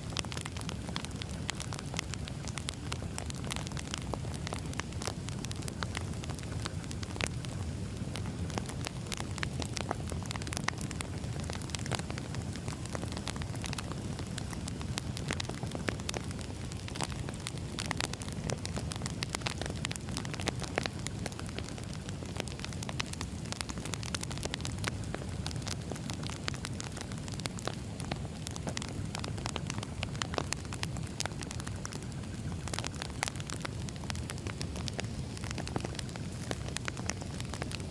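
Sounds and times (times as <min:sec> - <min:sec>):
firewood crackling and popping: 0:00.0 - 0:37.9
rush of flame: 0:00.0 - 0:37.9.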